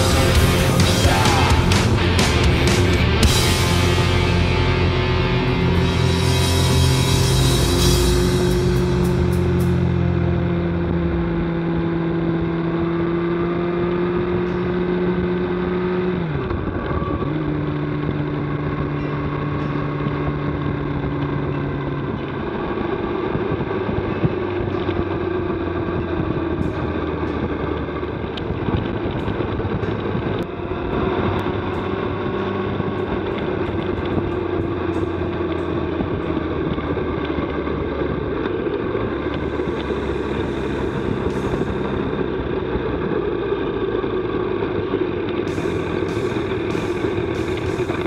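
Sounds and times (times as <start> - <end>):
motorcycle engine running: 0.0 - 48.0
road and wind noise: 0.0 - 48.0.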